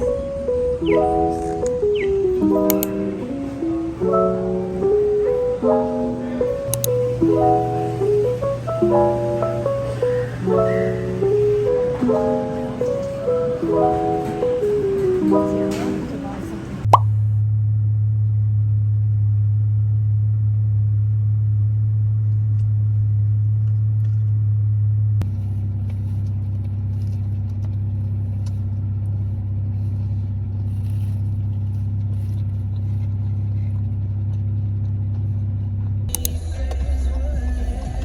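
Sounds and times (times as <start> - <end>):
road noise: 0.0 - 18.1, 23.1 - 38.0
vehicle engine drone: 0.0 - 38.0.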